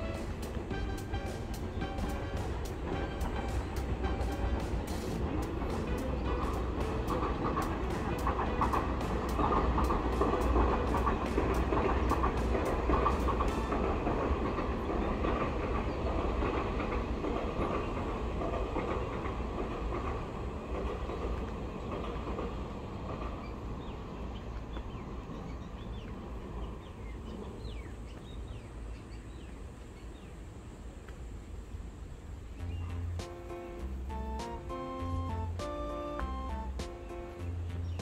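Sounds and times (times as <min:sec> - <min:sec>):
train rumbling on tracks: 0:00.0 - 0:38.0.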